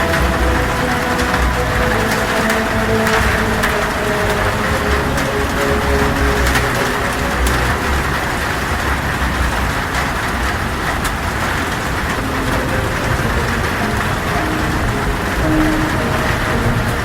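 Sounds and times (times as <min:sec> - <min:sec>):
heavy rain on a tin roof: 0:00.0 - 0:17.0.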